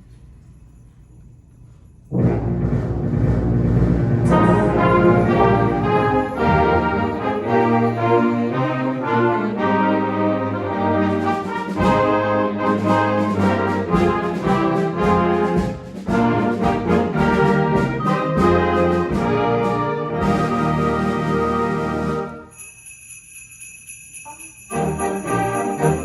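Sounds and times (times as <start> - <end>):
concert band playing carols: 2.1 - 22.5, 24.6 - 26.0
brass melody: 2.1 - 22.6, 24.3 - 26.0.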